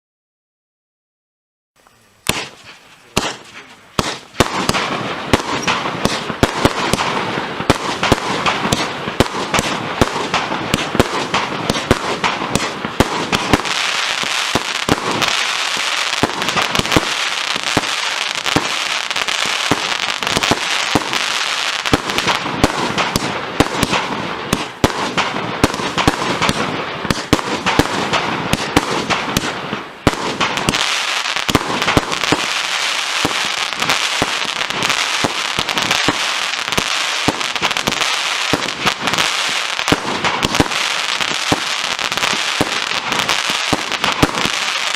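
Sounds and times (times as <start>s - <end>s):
firework cake firing: 2.2s - 44.9s.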